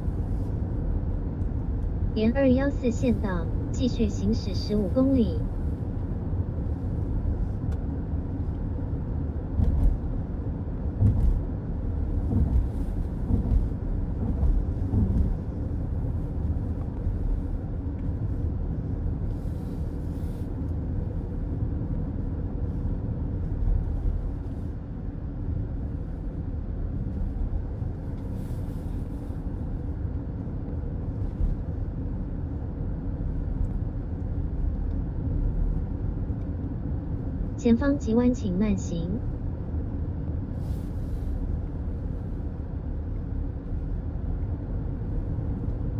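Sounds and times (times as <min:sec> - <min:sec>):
car road and tyre rumble: 0:00.0 - 0:37.6, 0:39.2 - 0:45.9.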